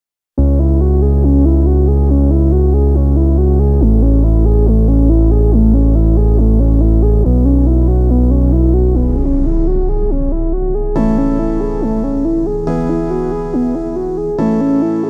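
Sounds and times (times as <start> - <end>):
electronic synthesizer music: 0.4 - 15.0.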